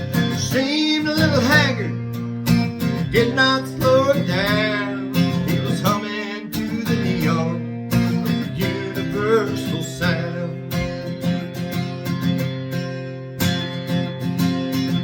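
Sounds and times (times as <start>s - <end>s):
acoustic guitar country song: 0.0s - 15.0s.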